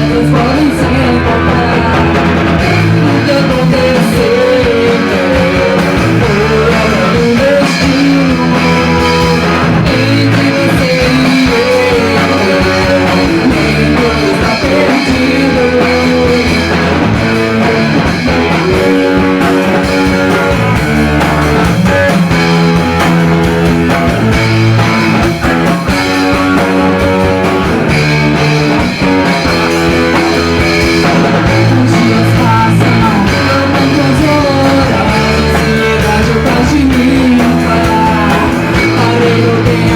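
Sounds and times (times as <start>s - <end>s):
guitar-led rock music: 0.0s - 39.9s.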